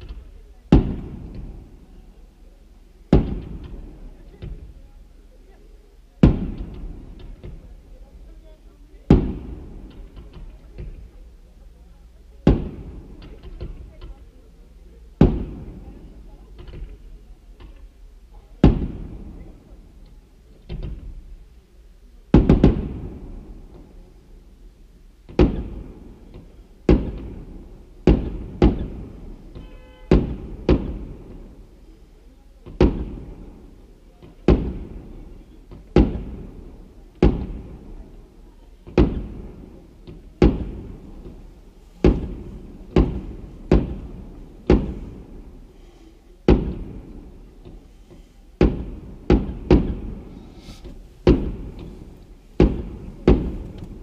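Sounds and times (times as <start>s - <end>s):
fireworks bangs echoing: 0.0s - 54.0s.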